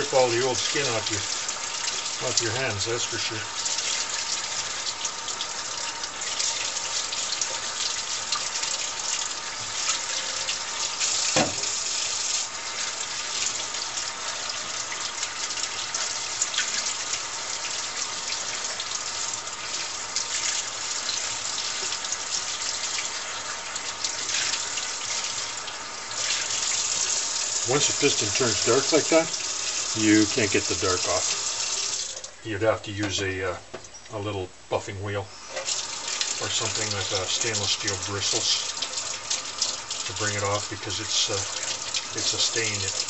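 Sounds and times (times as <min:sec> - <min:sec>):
pistons rinsed under water: 0:00.0 - 0:32.4, 0:35.5 - 0:43.0
faucet running: 0:00.0 - 0:33.2, 0:35.3 - 0:43.0.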